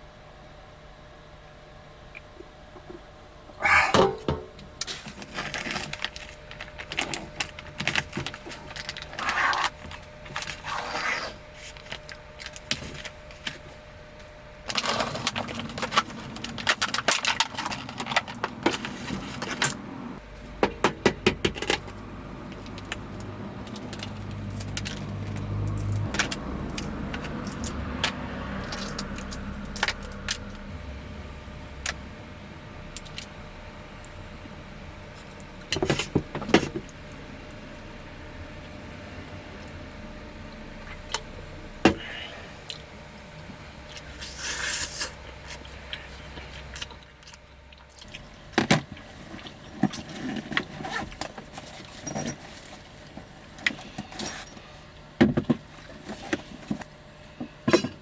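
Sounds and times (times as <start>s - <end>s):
low rumble and hum: 0.0s - 57.6s.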